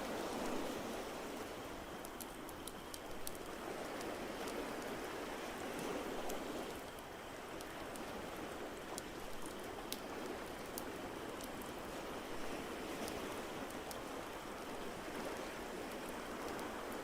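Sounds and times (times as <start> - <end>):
ocean waves: 0.0 - 17.0.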